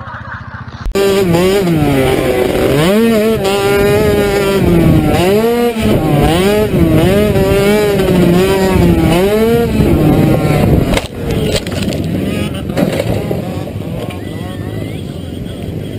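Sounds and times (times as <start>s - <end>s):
quad engine revving: 0.7s - 15.9s.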